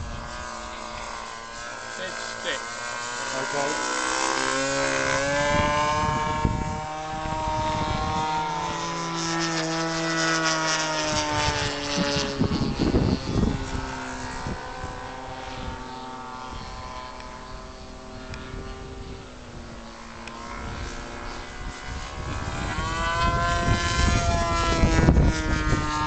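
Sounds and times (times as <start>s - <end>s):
wind buffeting microphone: 0.0s - 1.6s, 4.4s - 26.0s
model aircraft engine running: 0.0s - 26.0s.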